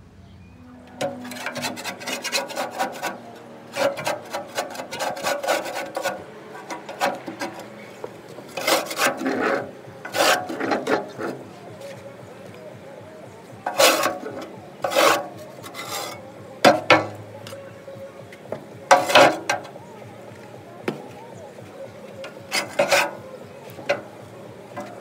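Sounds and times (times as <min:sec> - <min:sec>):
tool scraping smoker firebox: 0:00.9 - 0:12.0, 0:13.6 - 0:20.0, 0:21.8 - 0:25.0.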